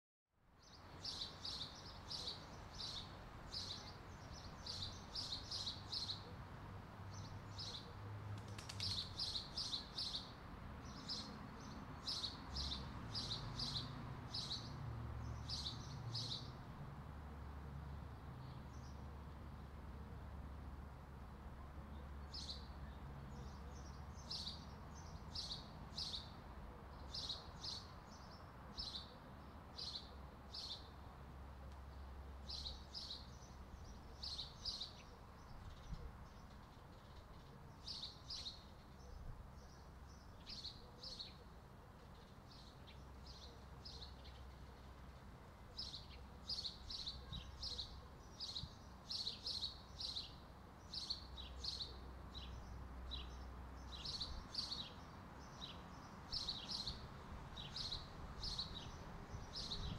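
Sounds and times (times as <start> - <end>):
small birds chirping: 0.6 - 6.4, 7.1 - 16.7, 21.6 - 59.9.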